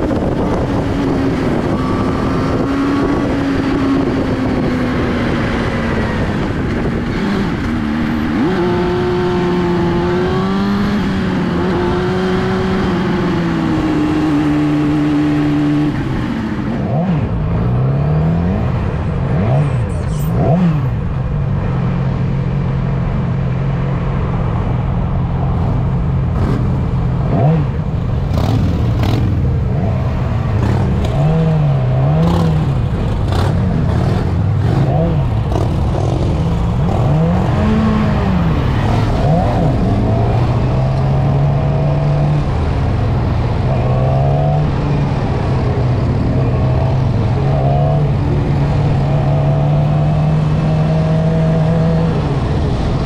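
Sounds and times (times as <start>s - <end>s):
motorcycle engine revving: 0.0s - 21.7s, 25.6s - 53.0s.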